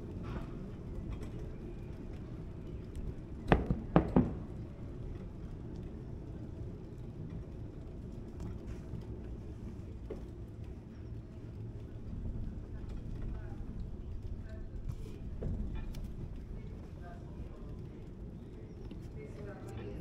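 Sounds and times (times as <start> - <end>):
low street rumble: 0.0 - 20.0.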